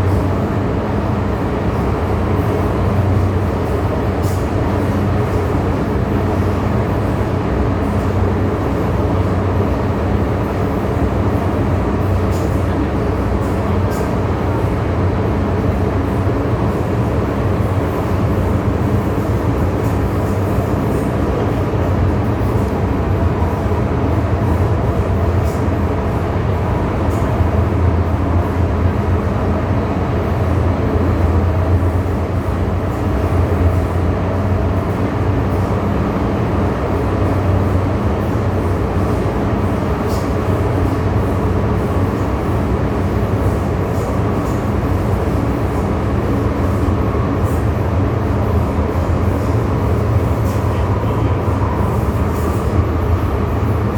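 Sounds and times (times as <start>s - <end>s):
metro train rumbling: 0.0s - 53.9s.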